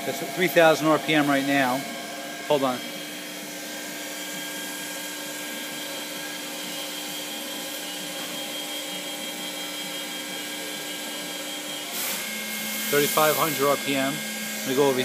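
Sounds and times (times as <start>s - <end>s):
milling machine spindle whine: 0.0s - 15.0s.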